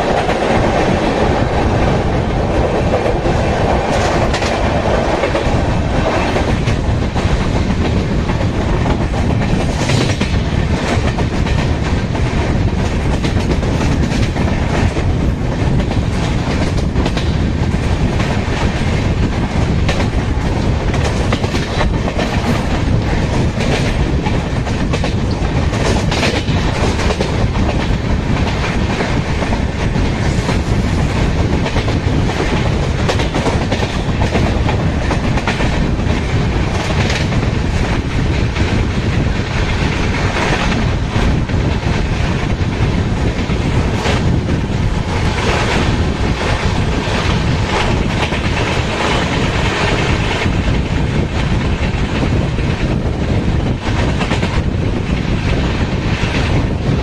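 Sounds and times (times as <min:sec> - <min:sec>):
train wheels rumbling on rails: 0:00.0 - 0:57.0
wheels clickety-clack: 0:00.0 - 0:57.0.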